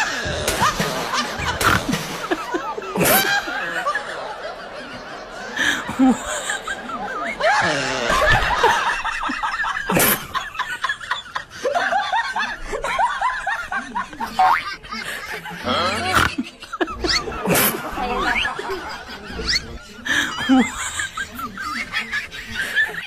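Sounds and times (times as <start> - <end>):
people laughing: 0.0 - 23.0.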